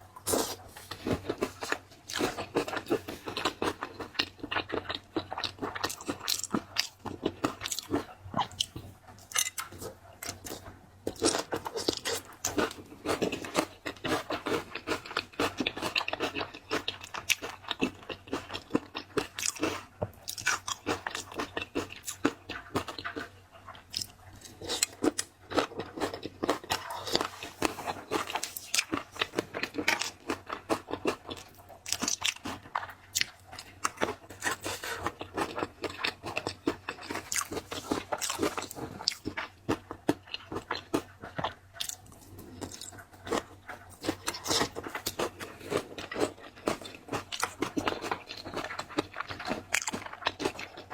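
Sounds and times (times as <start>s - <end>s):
person crunching and chewing: 0.2s - 50.9s.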